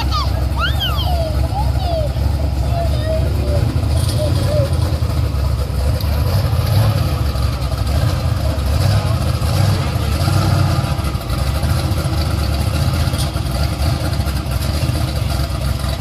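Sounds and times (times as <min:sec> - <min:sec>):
drag car engine idling: 0:00.0 - 0:16.0.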